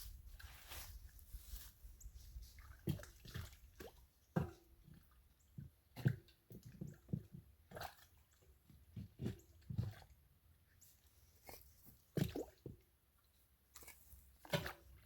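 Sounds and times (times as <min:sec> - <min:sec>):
wet soil squelching: 0:00.0 - 0:12.8, 0:13.6 - 0:15.0.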